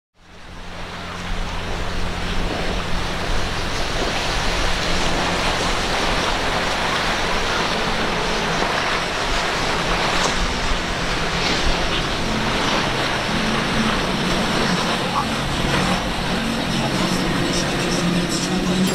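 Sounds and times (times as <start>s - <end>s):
boat engine drone: 0.2s - 18.9s
hull cutting through waves: 0.2s - 18.9s.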